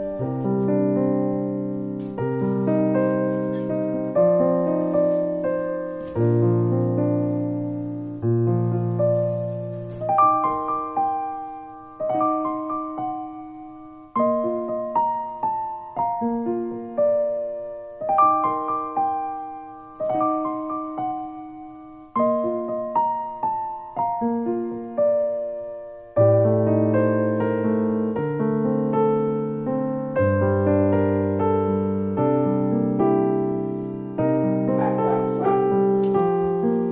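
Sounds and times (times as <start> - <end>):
gentle piano melody: 0.0 - 36.9.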